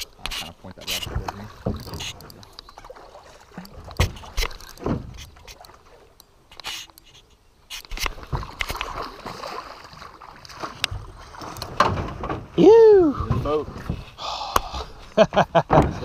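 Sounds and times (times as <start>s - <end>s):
water splashing: 0.0s - 15.2s.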